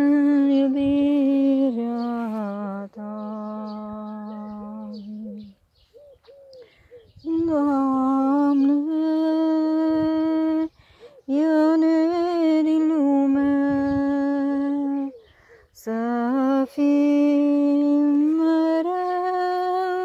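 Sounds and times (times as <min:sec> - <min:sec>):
woman humming a melody: 0:00.0 - 0:05.6, 0:06.3 - 0:20.0.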